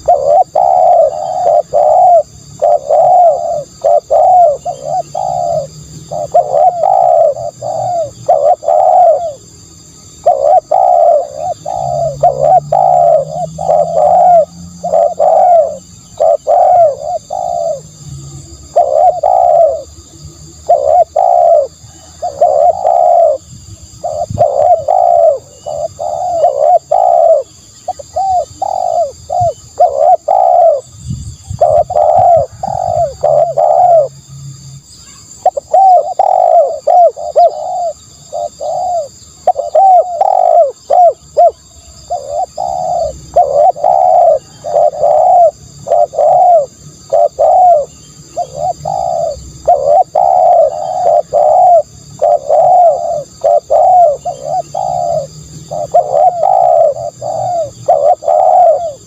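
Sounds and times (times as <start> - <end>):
dove cooing: 0.0 - 34.2, 35.1 - 59.0.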